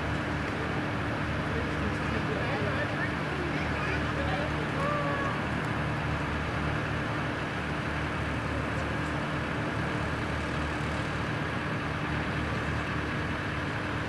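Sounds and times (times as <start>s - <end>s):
jet engines rumbling: 0.0s - 14.0s
thin jet engine whine: 0.0s - 14.0s.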